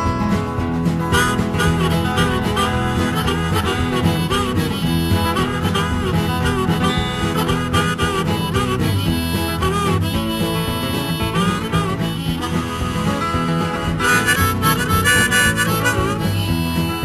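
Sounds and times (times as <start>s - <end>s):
acoustic guitar rhythm: 0.0s - 17.0s
harmonica lead with bending notes: 0.0s - 17.0s.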